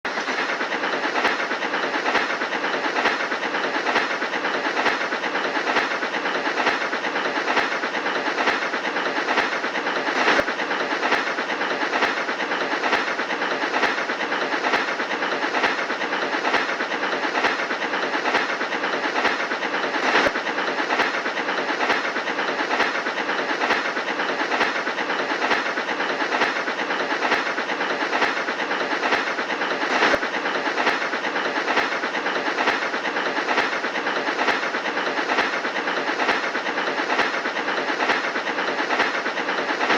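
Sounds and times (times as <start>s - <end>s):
steam locomotive hissing and rattling: 0.1s - 39.9s.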